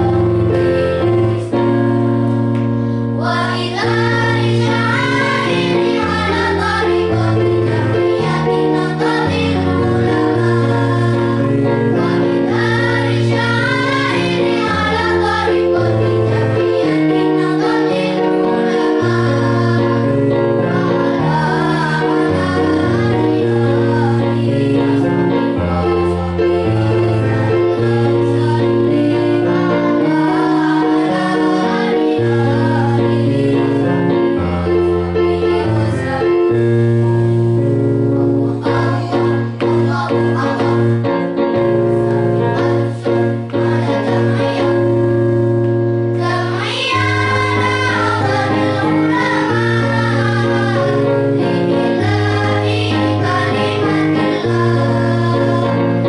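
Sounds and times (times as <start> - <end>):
children's choir singing: 0.0 - 2.2, 3.2 - 56.0
electronic keyboard chords: 0.0 - 56.0.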